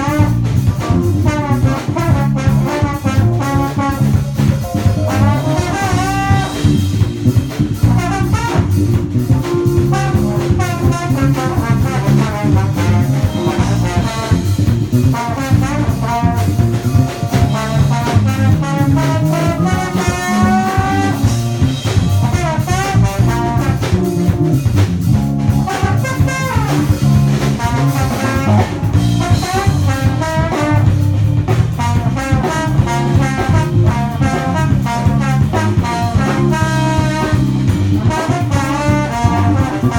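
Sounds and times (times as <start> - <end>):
drum kit: 0.0 - 39.9
horn section melody: 0.0 - 39.9
live jazz band playing: 0.0 - 39.9.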